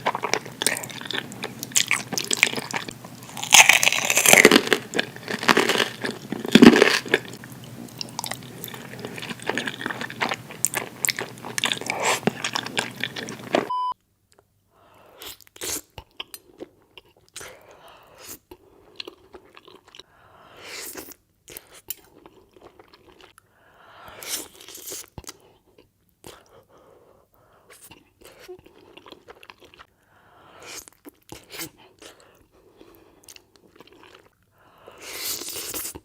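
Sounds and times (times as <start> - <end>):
person chewing spaghetti: 0.0 - 13.7, 15.2 - 20.1, 20.8 - 23.4, 24.1 - 27.1, 27.7 - 36.0.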